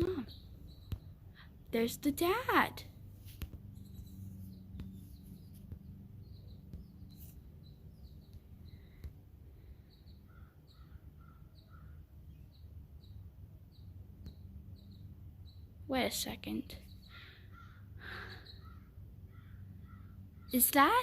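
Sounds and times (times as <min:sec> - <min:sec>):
finches chirping: 0:00.0 - 0:02.9, 0:03.7 - 0:21.0
low steady background hum: 0:00.0 - 0:21.0.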